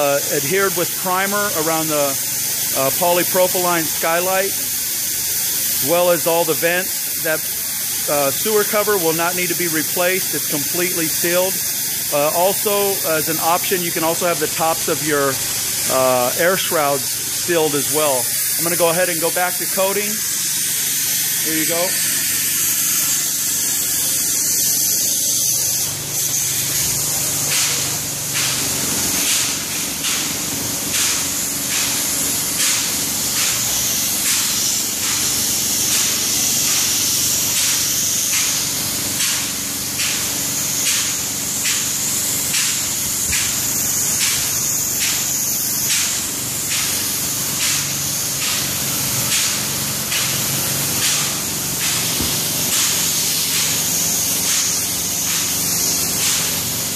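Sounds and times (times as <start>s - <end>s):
spray gun hissing: 0.0s - 56.9s.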